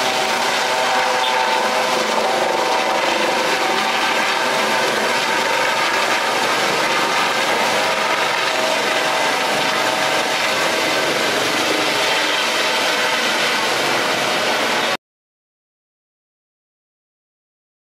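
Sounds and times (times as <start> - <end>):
helicopter engine and rotors: 0.0 - 15.0.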